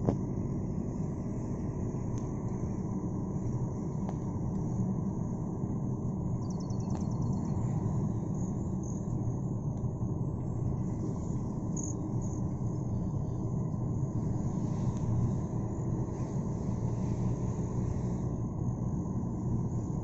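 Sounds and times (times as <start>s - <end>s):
vehicle driving on asphalt: 0.0s - 20.0s.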